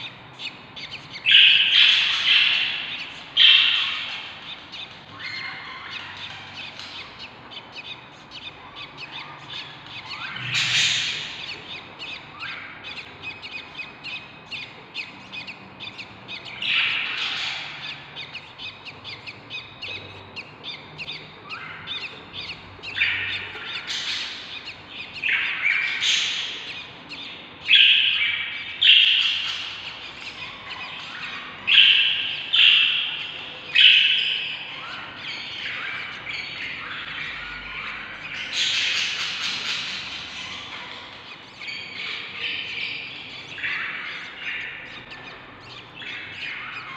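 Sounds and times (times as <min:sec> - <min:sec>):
budgerigars chirping: 0:00.0 - 0:46.9
harsh bird calls: 0:00.0 - 0:46.9.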